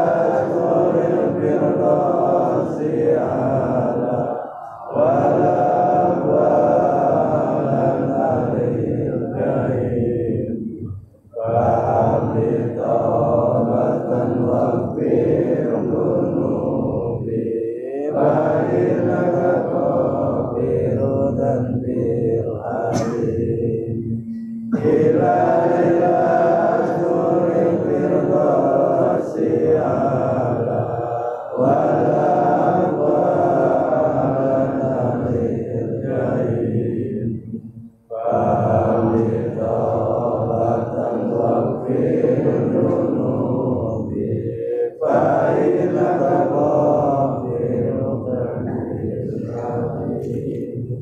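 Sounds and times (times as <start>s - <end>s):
men chanting together: 0.0s - 51.0s.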